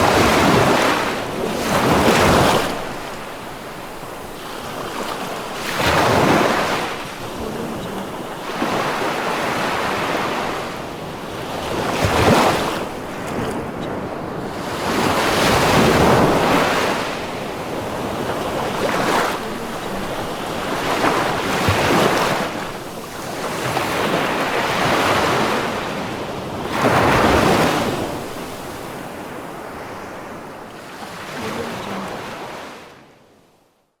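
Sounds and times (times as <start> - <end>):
ocean waves breaking on shore: 0.0 - 33.4.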